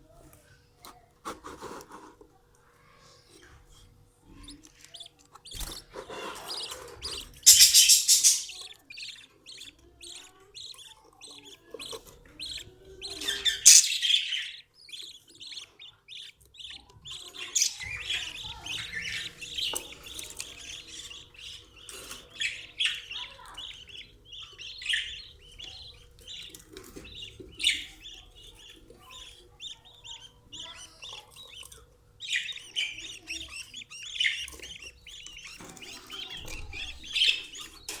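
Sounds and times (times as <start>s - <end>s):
budgerigars chattering and chirping: 4.3s - 38.0s.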